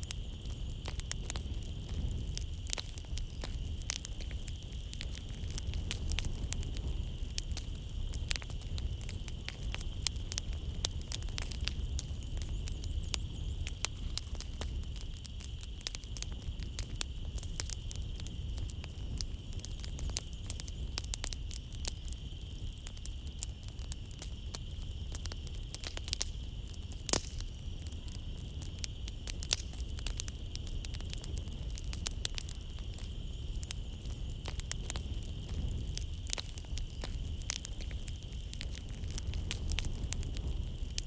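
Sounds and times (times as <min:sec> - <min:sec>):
night insects chirring: 0:00.0 - 0:41.0
wood fire crackling: 0:00.0 - 0:41.0.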